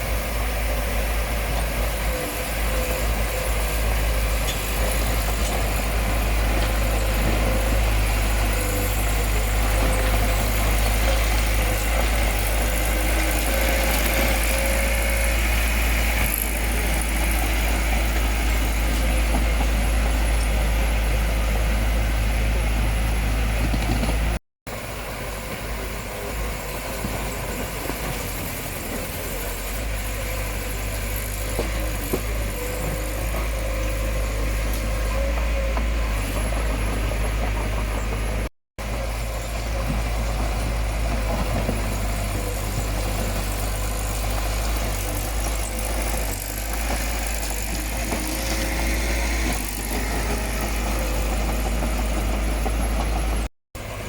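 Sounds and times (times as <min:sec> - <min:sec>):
heavy machine diesel engine running: 0:00.0 - 0:54.0.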